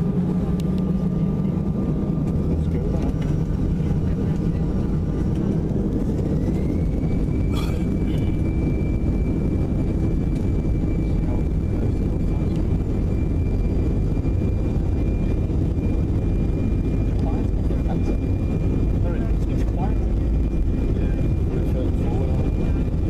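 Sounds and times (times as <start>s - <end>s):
jet engines rumbling and whining: 0.0s - 23.0s.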